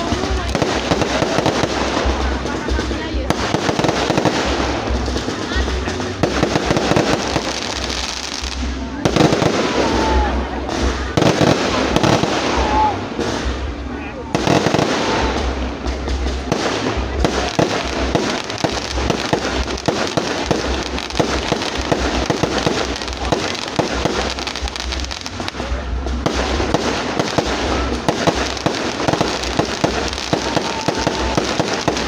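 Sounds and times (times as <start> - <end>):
deep firework thuds: 0.0 - 32.0
fireworks bangs and crackles: 0.0 - 32.0.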